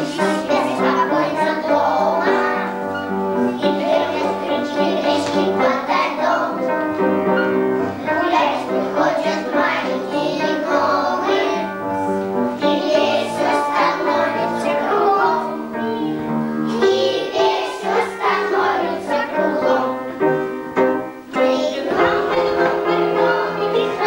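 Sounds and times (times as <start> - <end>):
children singing in unison: 0.0 - 7.2, 7.8 - 24.0
instrumental accompaniment: 0.0 - 24.0.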